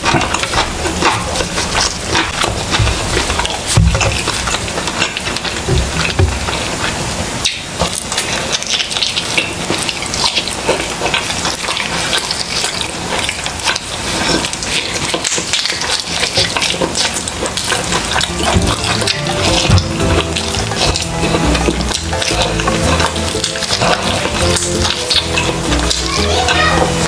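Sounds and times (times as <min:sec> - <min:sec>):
wet chewing and mouth-smacking: 0:00.0 - 0:27.0.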